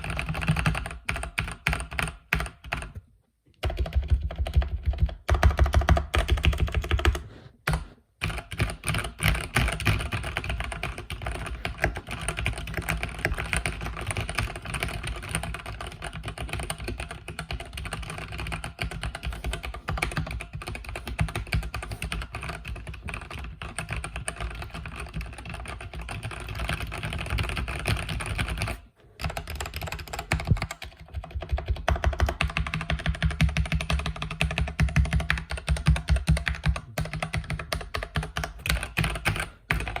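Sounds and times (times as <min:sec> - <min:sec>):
fast mechanical keyboard typing: 0:00.0 - 0:03.0, 0:03.6 - 0:40.0.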